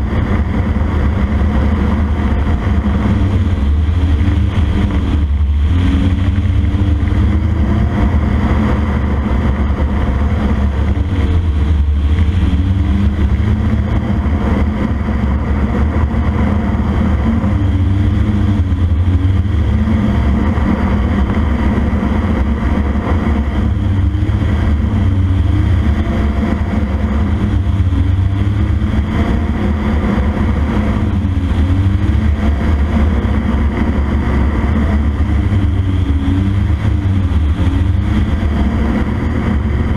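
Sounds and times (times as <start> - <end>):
two-stroke aircraft engine wavering: 0.0 - 39.9.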